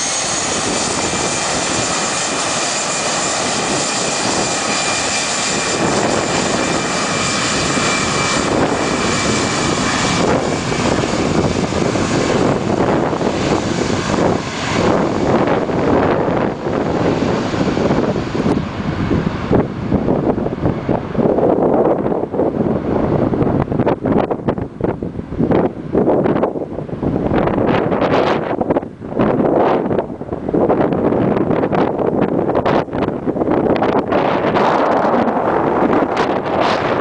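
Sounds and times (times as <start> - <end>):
jet engines roaring: 0.0 - 37.0
wind buffeting microphone: 0.0 - 37.0.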